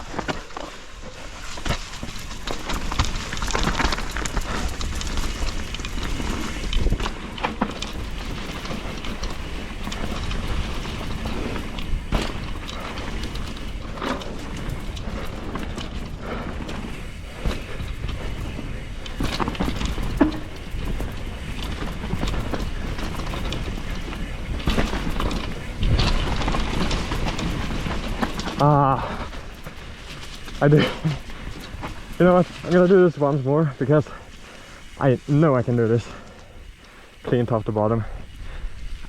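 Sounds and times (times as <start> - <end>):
bike knocking and rattling: 0.0 - 39.0
tyres rumbling on dirt: 0.0 - 39.0
wind noise: 0.0 - 39.0.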